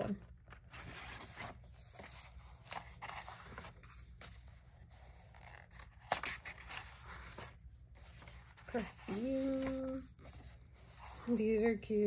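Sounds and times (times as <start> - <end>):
paper pages rustling: 0.0 - 11.8.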